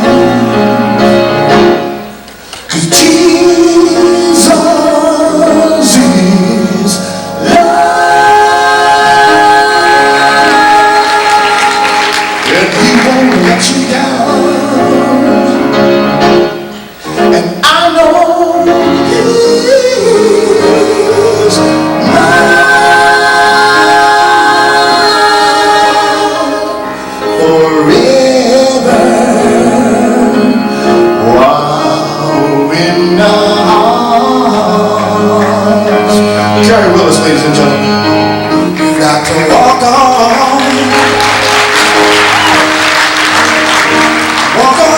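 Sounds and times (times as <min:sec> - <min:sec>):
gospel group singing in harmony: 0:00.0 - 0:44.9.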